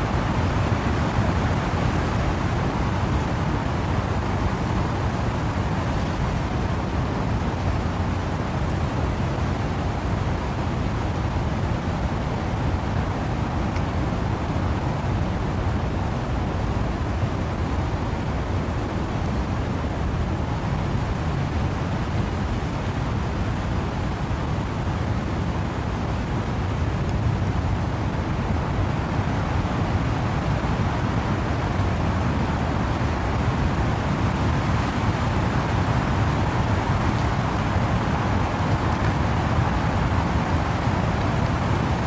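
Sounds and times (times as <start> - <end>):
wind-driven rain in trees: 0.0 - 42.0.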